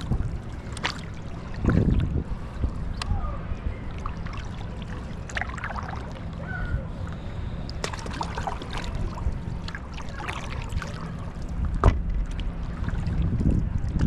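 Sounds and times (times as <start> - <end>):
water lapping and splashing: 0.0 - 14.0
wind rumble on microphone: 0.0 - 14.0.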